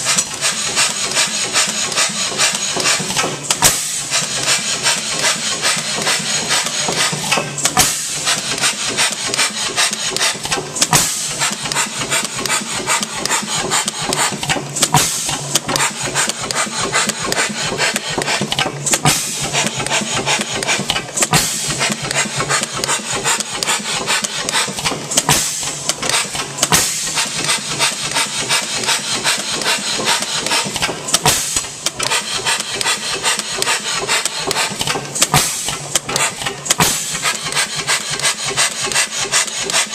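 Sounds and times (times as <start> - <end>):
gas engine clattering and knocking: 0.0 - 39.9.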